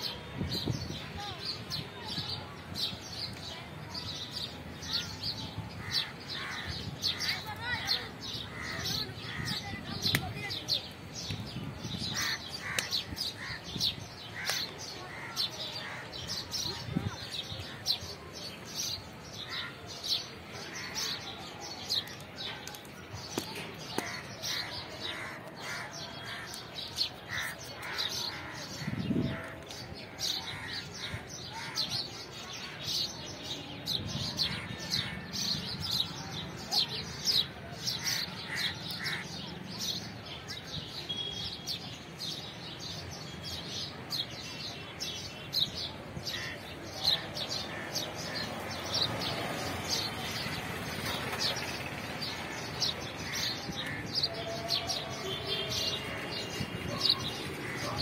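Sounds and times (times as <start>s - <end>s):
birds chirping and calling: 0.0s - 58.0s.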